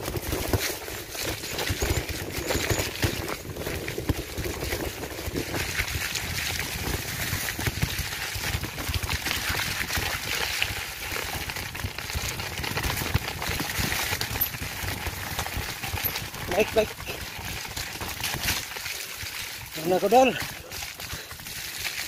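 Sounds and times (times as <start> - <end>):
bike knocking and rattling: 0.0 - 22.0.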